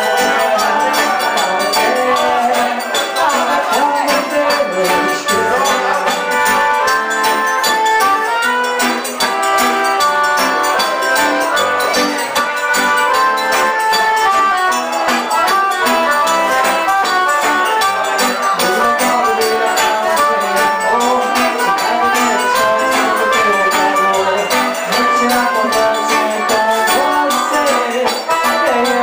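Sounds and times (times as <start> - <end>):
accordion: 0.0 - 29.0
guitar: 0.0 - 29.0
hand percussion: 0.0 - 29.0.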